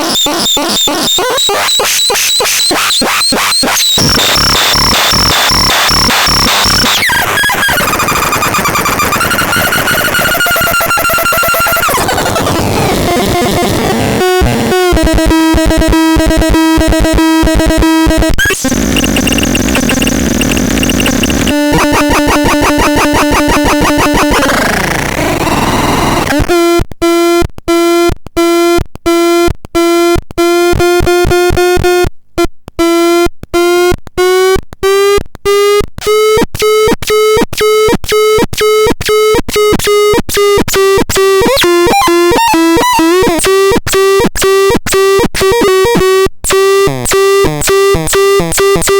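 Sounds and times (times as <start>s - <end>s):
harsh electronic synthesizer tones: 0.0s - 26.6s, 34.9s - 48.9s.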